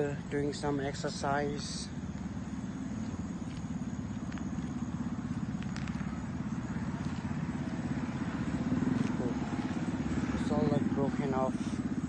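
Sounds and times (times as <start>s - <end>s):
motorbikes and cars passing: 0.0s - 12.0s
road traffic rumble: 0.0s - 12.0s.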